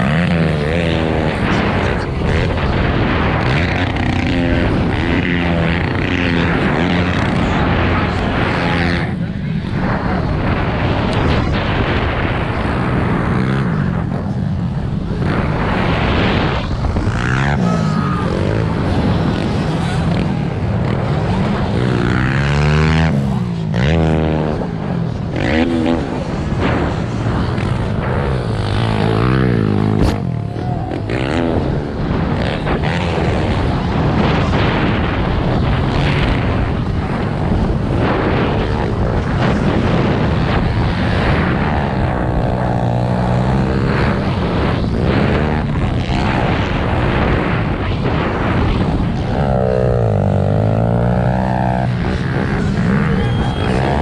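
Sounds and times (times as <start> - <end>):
pit bike engines revving: 0.0 - 54.0
wind rush on microphone: 0.0 - 54.0.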